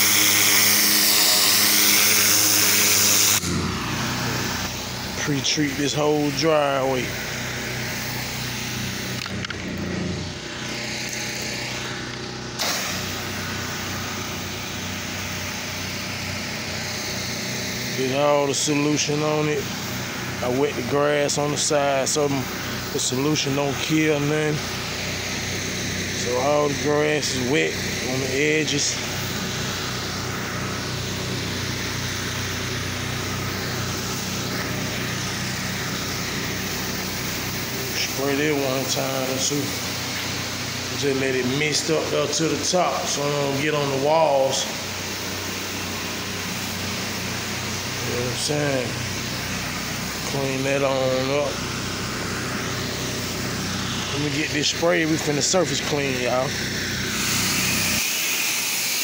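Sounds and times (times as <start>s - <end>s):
spray hissing: 0.0s - 9.5s, 10.2s - 59.0s
pressure washer engine running: 0.0s - 59.0s.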